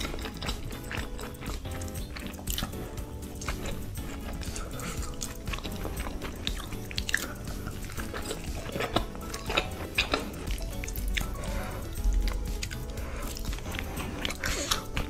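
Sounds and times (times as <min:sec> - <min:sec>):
chewing and mouth clicks: 0:00.0 - 0:15.0
faint background music: 0:00.0 - 0:15.0.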